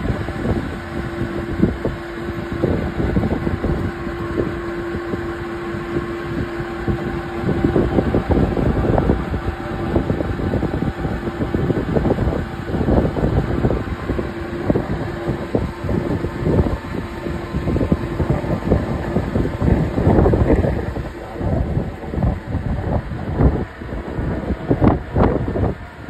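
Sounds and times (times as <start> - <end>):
steady hum: 0.0 - 26.0
wind buffeting microphone: 0.0 - 26.0.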